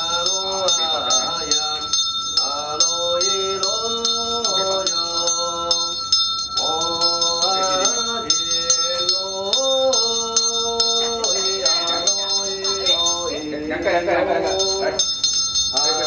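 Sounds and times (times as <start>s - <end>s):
chanted melody: 0.0s - 16.0s
small hand bell ringing rapidly: 0.0s - 16.0s.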